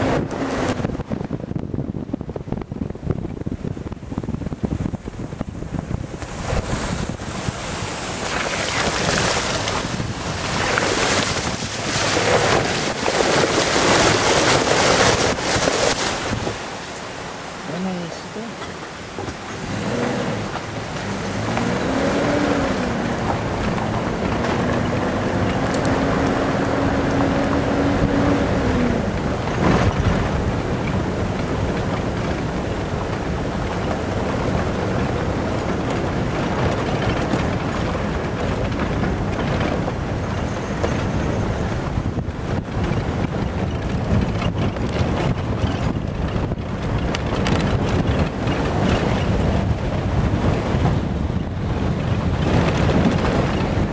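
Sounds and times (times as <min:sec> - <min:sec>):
rumble of tyres on gravel: 0:00.0 - 0:53.9
wind buffeting microphone: 0:00.0 - 0:53.9.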